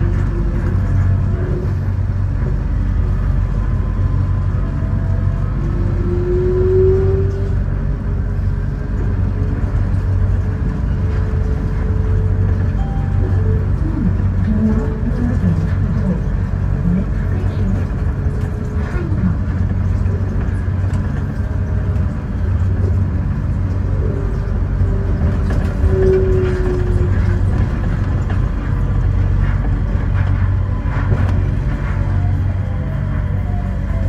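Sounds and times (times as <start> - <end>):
train rumbling on guideway: 0.0 - 34.0.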